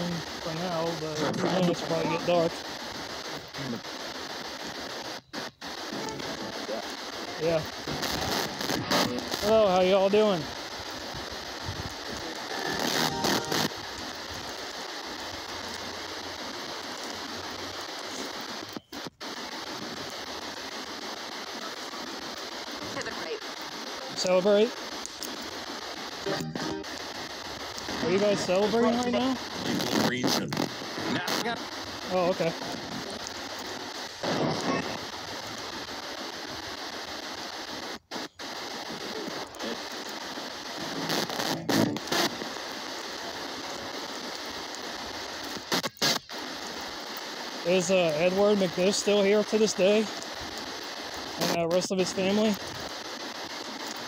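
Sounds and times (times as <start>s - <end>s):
short snatches of radio sound: 0.0s - 15.5s, 16.1s - 54.0s
radio static hiss: 0.0s - 54.0s.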